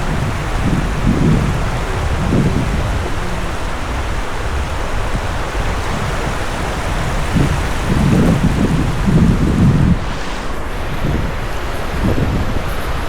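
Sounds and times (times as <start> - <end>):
surf hissing on a beach: 0.0 - 13.0
wind buffeting microphone: 0.0 - 13.0.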